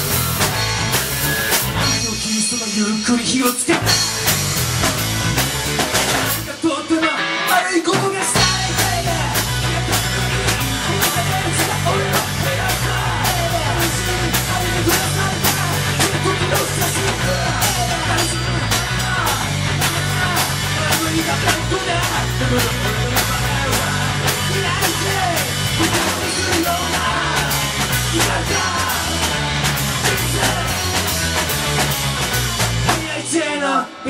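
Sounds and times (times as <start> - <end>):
drum kit beat: 0.0 - 33.4
electric guitar: 0.0 - 34.0
instrumental rock music: 0.0 - 34.0.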